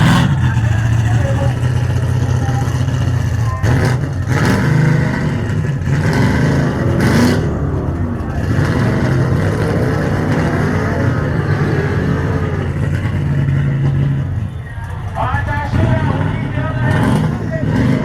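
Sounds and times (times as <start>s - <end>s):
faint voices: 0.0s - 4.5s, 7.6s - 18.0s
car engine running: 0.0s - 18.0s.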